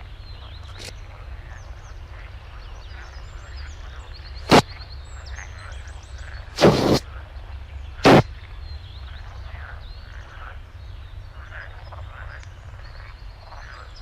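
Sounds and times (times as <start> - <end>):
frogs croaking: 0.0 - 7.4, 9.1 - 14.0.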